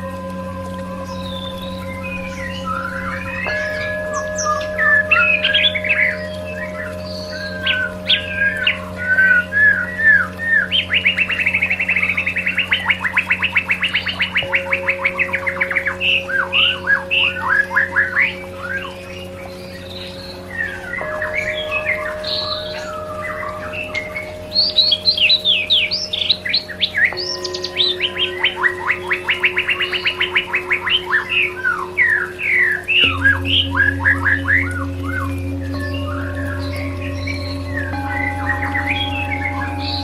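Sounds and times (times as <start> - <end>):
bird song with trills and whistles: 0.0 - 40.0
synthesized drone: 0.0 - 40.0.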